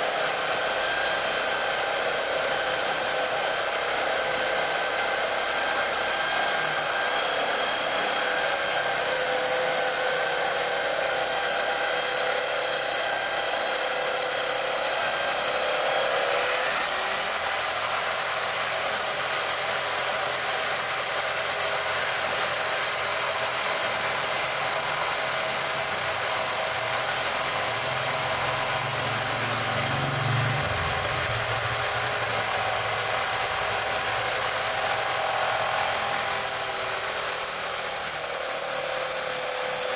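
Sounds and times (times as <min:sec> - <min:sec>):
electric drill motor whine: 0:00.0 - 0:39.9.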